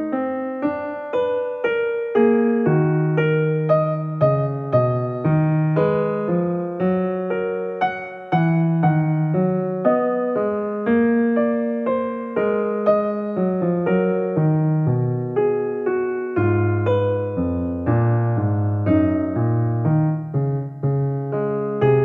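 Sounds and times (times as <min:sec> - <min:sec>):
piano-like keyboard music: 0:00.0 - 0:22.0.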